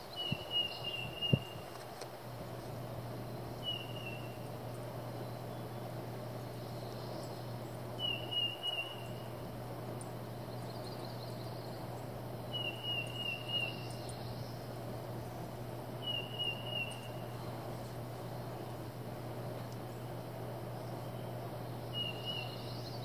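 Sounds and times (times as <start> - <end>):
low background hum: 0.0 - 23.0
songbird singing: 0.0 - 23.0.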